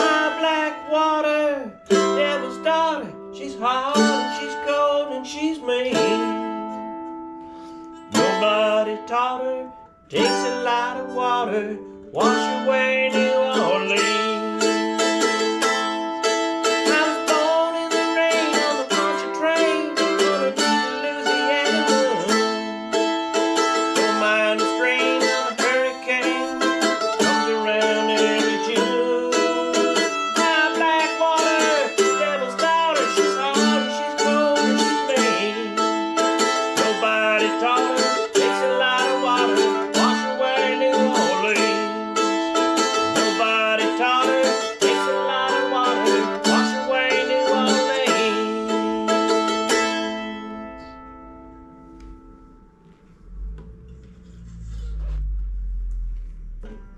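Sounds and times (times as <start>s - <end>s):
mandolin picking fast notes: 0.0s - 56.9s.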